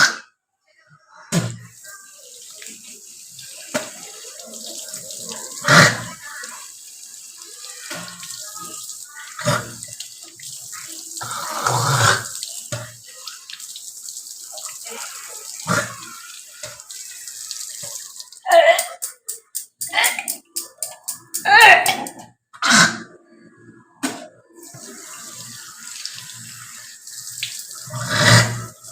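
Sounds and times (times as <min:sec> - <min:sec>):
person rinsing and spitting: 0:01.4 - 0:13.8, 0:14.4 - 0:23.2, 0:24.6 - 0:28.9
tap water running into sink: 0:01.5 - 0:22.2, 0:24.6 - 0:28.9.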